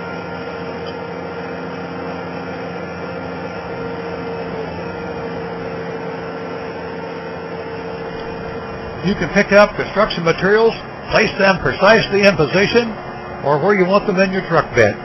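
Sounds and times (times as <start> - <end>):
hydraulic whine: 0.0 - 15.0
skid steer loader engine running: 0.0 - 15.0.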